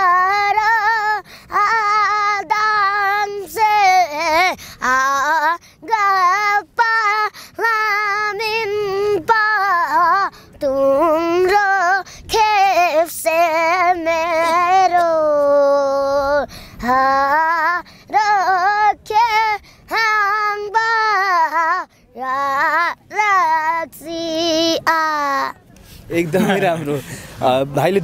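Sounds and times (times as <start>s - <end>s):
boy singing: 0.0s - 25.6s.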